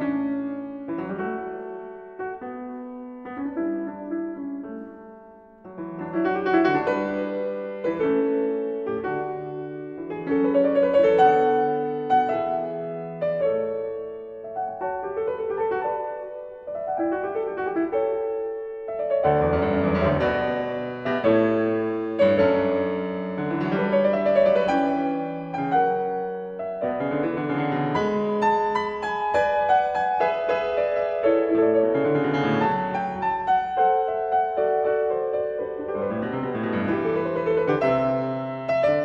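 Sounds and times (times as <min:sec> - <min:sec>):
solo piano music: 0:00.0 - 0:39.0.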